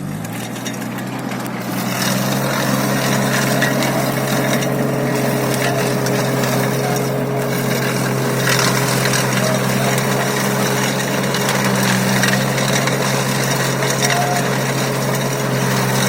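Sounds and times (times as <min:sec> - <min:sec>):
rough churning noise: 0:00.0 - 0:16.0
tractor engine running: 0:00.0 - 0:16.0.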